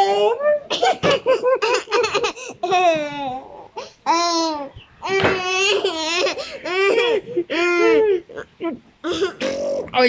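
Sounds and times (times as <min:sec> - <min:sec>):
toddler laughing: 0:00.0 - 0:09.9.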